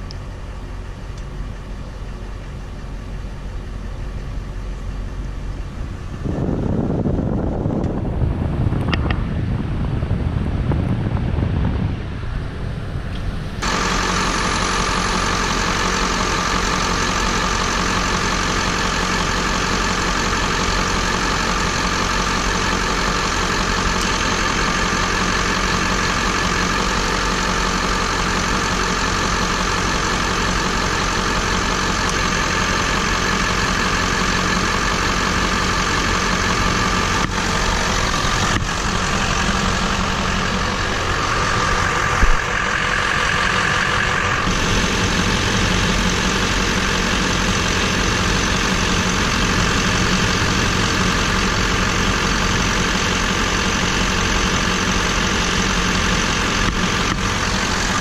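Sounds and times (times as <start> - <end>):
pickup engine idling: 0.0 - 58.0.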